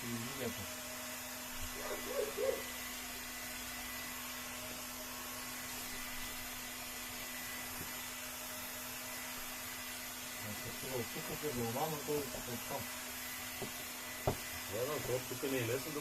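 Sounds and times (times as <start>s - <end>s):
heat gun blowing hiss: 0.0s - 16.0s.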